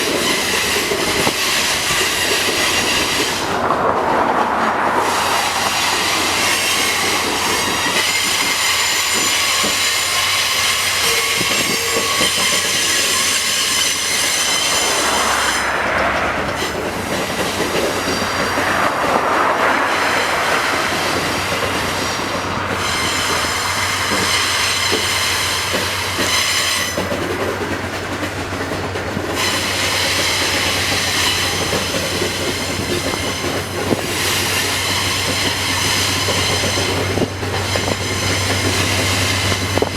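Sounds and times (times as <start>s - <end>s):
train wheels squealing: 0.0s - 3.6s, 5.0s - 27.4s, 28.8s - 39.9s
wheels rumbling on rail: 0.0s - 39.9s.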